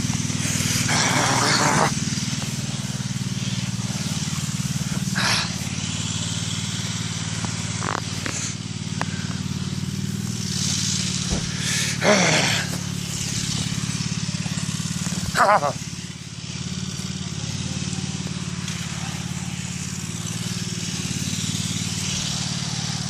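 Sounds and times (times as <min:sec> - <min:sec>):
engine droning: 0:00.0 - 0:23.0.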